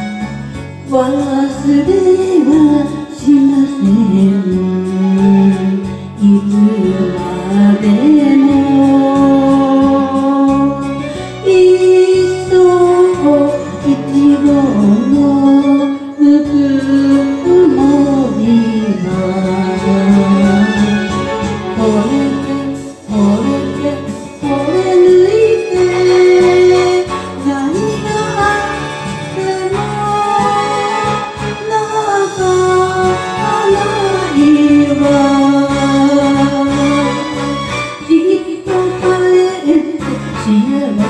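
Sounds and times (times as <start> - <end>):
instrumental backing: 0.0 - 41.0
person singing: 0.8 - 41.0.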